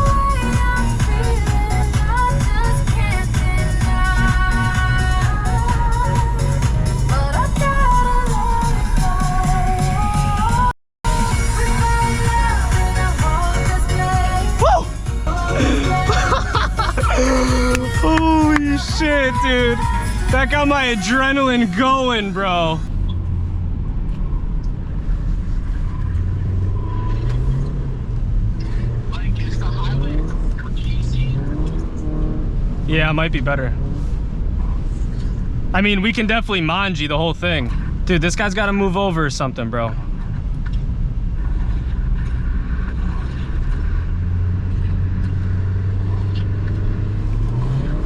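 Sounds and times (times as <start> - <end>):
car engine drone: 0.0 - 48.0
road noise: 0.0 - 48.0.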